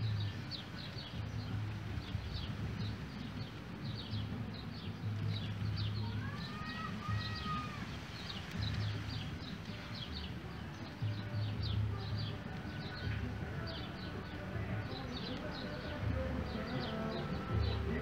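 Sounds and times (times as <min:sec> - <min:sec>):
low microphone rumble: 0:00.0 - 0:18.0.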